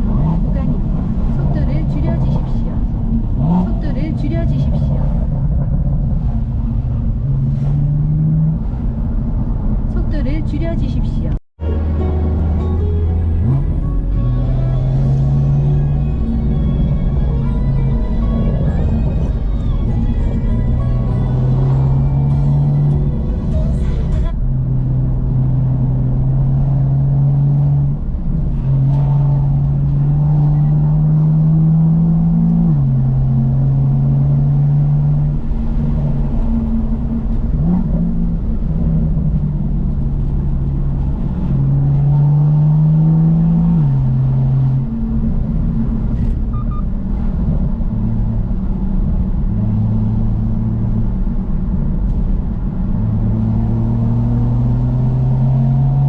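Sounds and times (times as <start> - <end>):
car engine accelerating and shifting: 0.0 - 56.0.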